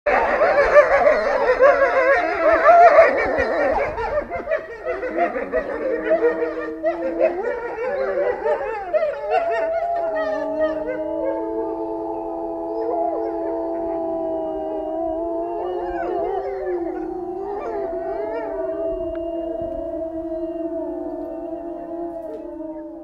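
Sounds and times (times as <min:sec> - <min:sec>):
wolves howling: 0:00.1 - 0:23.0
wolves yipping: 0:00.1 - 0:23.0.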